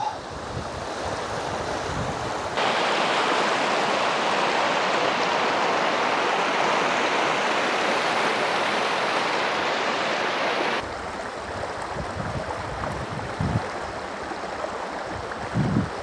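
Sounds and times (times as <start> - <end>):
stream rushing over stones: 0.4 - 16.0.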